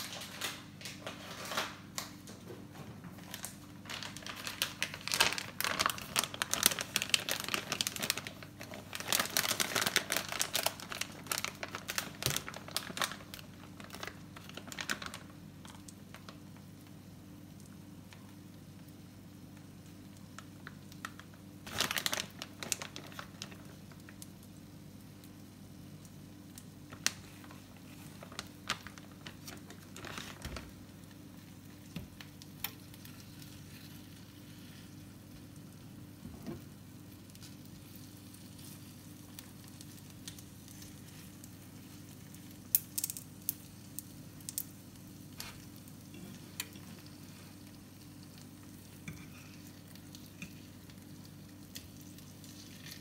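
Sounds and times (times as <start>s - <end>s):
plastic bag crinkling: 0.0s - 2.4s, 3.0s - 16.6s, 20.4s - 24.2s, 26.8s - 53.0s
food sizzling in a frying pan: 4.1s - 53.0s.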